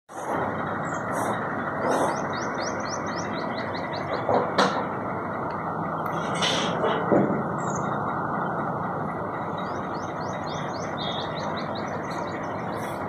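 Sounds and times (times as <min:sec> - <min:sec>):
outdoor background noise: 0:00.1 - 0:13.0.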